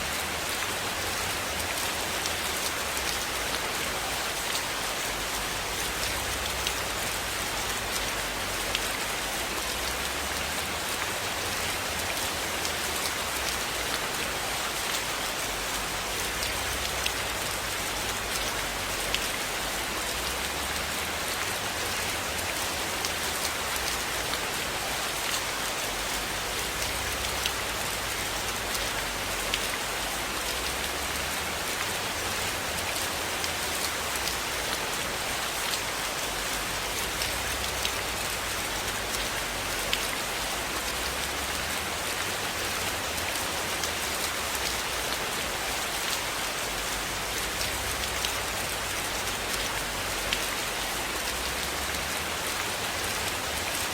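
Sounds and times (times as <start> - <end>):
rain falling on a cabin: 0.0 - 53.9.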